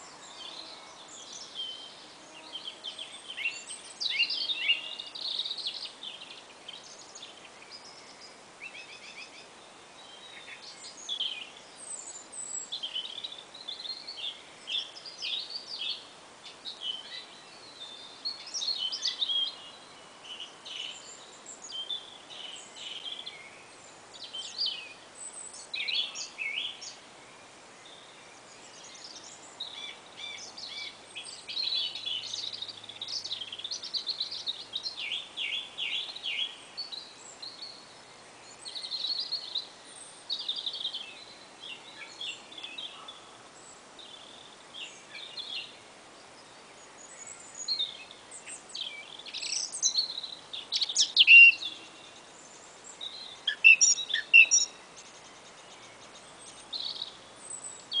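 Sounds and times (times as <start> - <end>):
faint background hiss: 0.0 - 58.0
songbirds singing and calling: 0.0 - 58.0.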